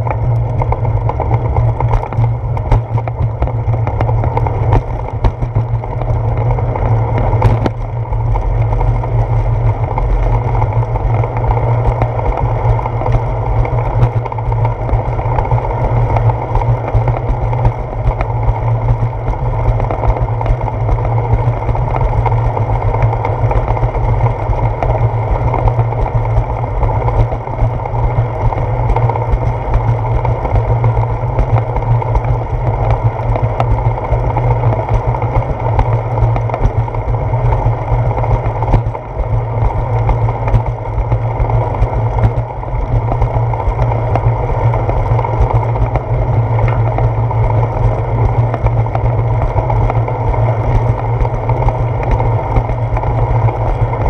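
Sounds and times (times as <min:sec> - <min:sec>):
tyre noise on concrete: 0:00.0 - 0:54.0
wind buffeting camera: 0:00.0 - 0:54.0.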